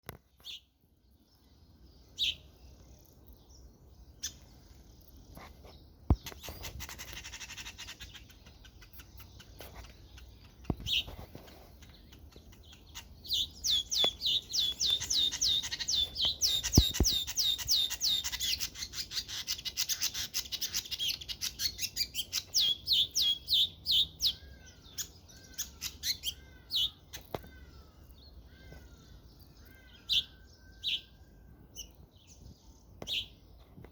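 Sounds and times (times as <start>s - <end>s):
bird chirping: 0.0s - 33.9s.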